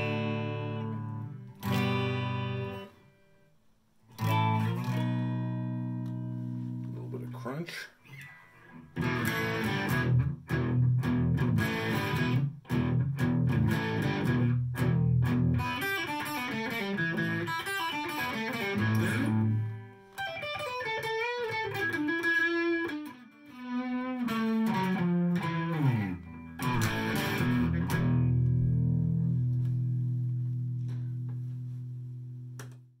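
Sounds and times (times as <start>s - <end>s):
overdriven electric guitar: 0.0s - 3.2s, 4.1s - 7.1s, 8.1s - 32.9s.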